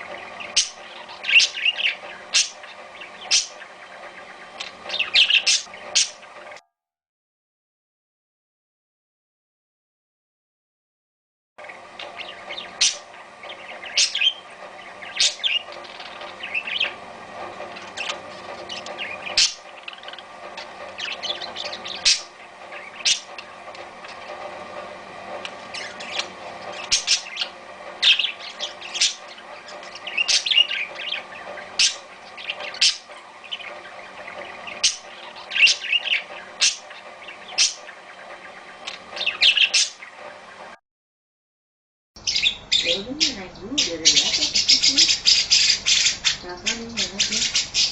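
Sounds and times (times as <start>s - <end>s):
parakeet singing: 0.0s - 6.6s, 11.6s - 40.7s, 42.2s - 47.9s.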